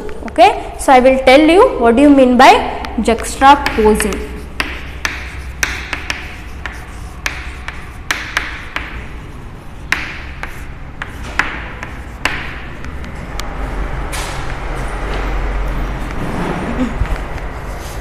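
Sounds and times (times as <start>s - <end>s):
chalk writing on chalkboard: 2.0s - 18.0s.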